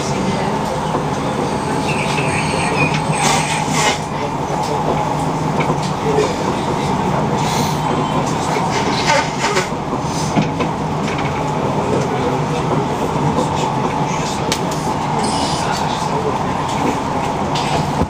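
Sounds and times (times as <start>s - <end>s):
train rumble inside carriage: 0.0s - 18.0s.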